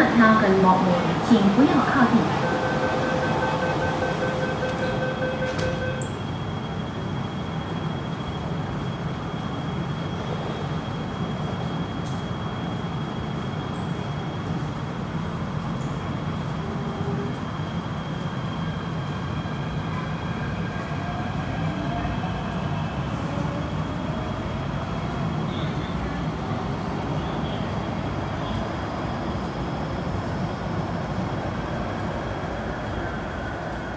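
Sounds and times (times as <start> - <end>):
electric train rumbling: 0.0 - 33.9.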